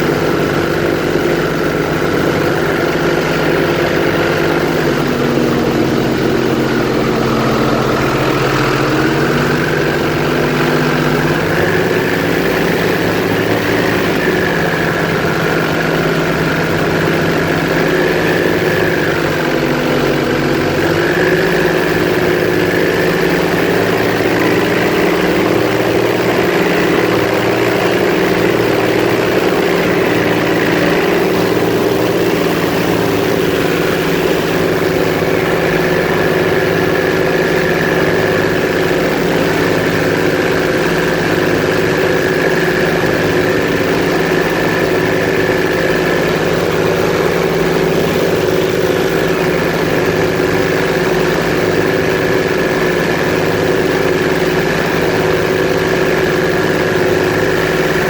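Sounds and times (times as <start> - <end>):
airboat engine and propeller: 0.0 - 58.0.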